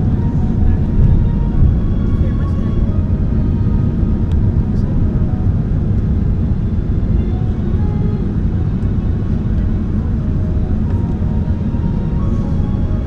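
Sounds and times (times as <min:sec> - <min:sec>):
airliner rumble: 0:00.0 - 0:13.0.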